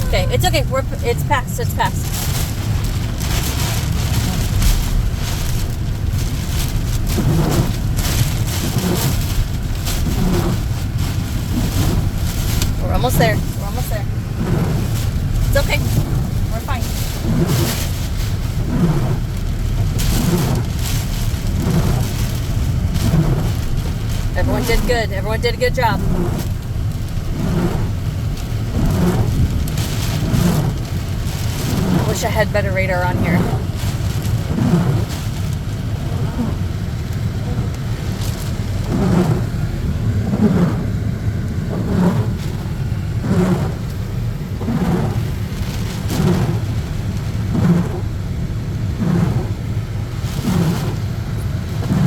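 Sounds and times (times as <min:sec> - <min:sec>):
rain on vehicle body: 0:00.0 - 0:52.0
truck engine and road rumble: 0:00.0 - 0:52.0.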